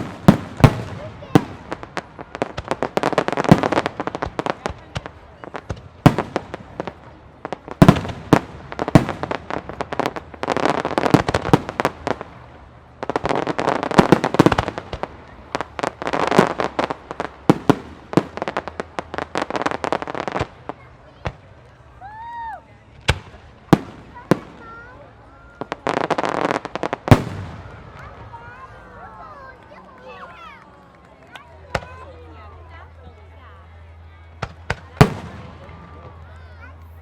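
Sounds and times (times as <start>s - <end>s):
fireworks bangs: 0.0s - 21.6s, 22.9s - 32.5s, 34.3s - 36.9s
fireworks crackling: 0.0s - 37.0s.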